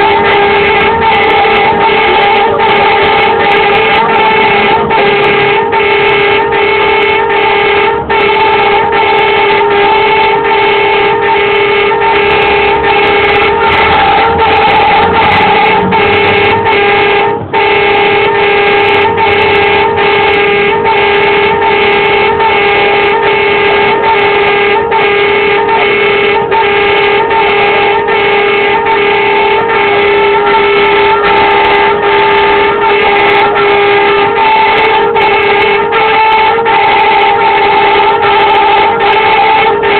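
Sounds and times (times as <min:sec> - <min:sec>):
pulsing warning siren: 0:00.0 - 0:39.9.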